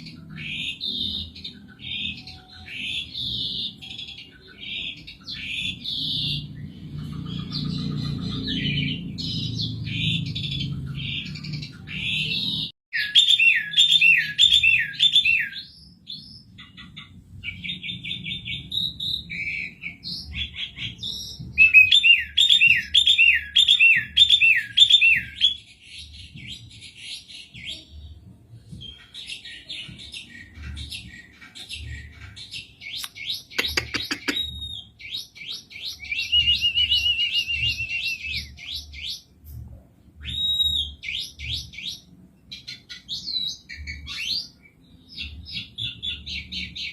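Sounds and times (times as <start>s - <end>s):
starling singing: 0.0s - 39.4s, 40.2s - 46.9s.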